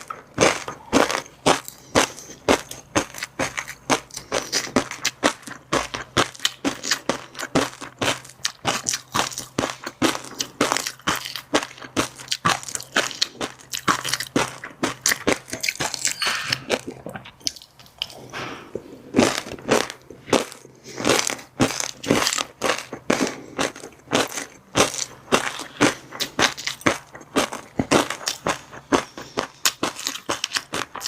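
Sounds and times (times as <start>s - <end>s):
crunchy food chewing: 0.0s - 31.0s.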